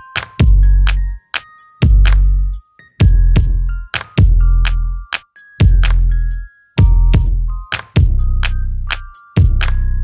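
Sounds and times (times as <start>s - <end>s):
electronic music with synth melody: 0.0s - 10.0s.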